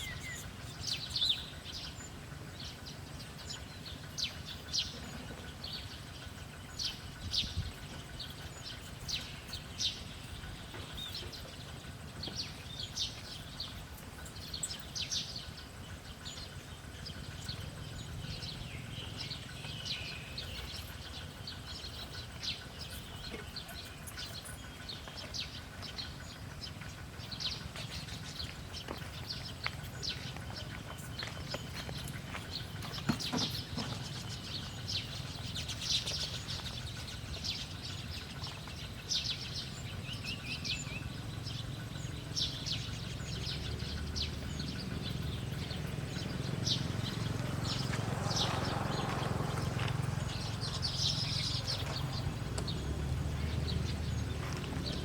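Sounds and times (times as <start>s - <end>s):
low background hum: 0.0s - 55.0s
small birds chirping: 0.0s - 55.0s.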